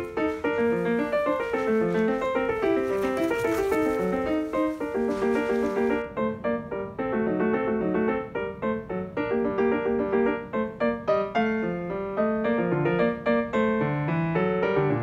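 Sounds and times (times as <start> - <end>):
faint hiss: 0.0 - 15.0
lively piano music: 0.0 - 15.0.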